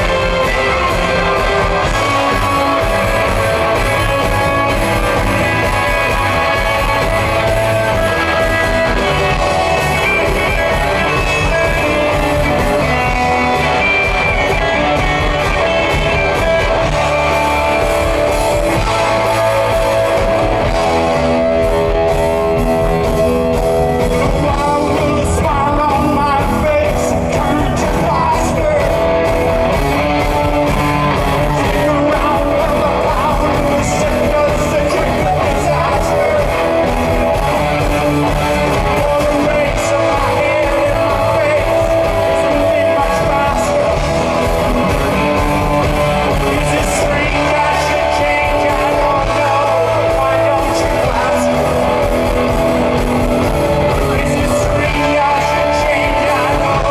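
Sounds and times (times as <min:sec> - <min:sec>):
man singing: 0:00.0 - 0:21.3, 0:23.9 - 0:56.9
drums: 0:00.0 - 0:56.9
electric bass: 0:00.0 - 0:56.9
electric guitars: 0:00.0 - 0:56.9.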